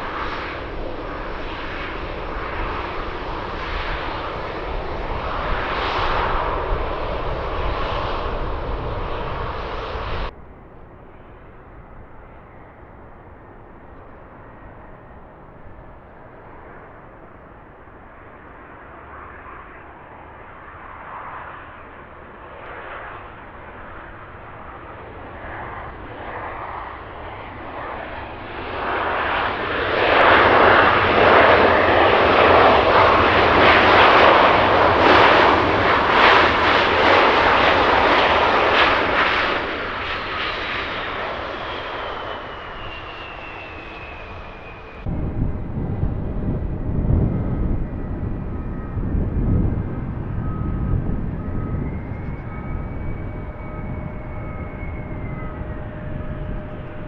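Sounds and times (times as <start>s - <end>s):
jet engines passing overhead: 0.0s - 57.0s
rumbling aircraft with whining tones: 0.0s - 57.0s.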